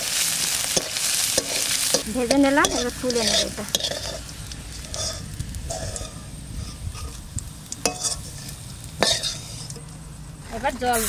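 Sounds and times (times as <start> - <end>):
spatula scraping a wok: 0.0 - 10.0
faint oil sizzle: 0.0 - 11.0.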